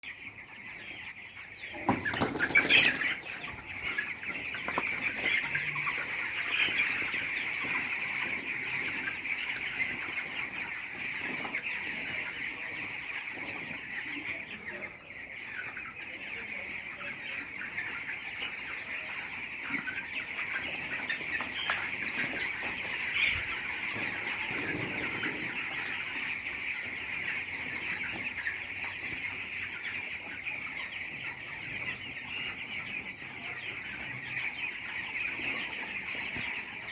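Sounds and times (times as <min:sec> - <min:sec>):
chicks cheeping and clucking: 0:00.0 - 0:36.9.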